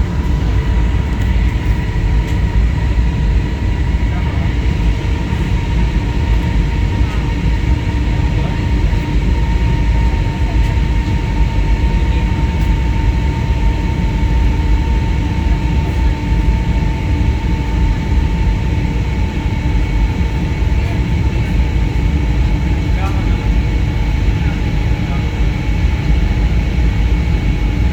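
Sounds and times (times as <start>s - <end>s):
airliner engines whining and rumbling: 0.0s - 27.9s.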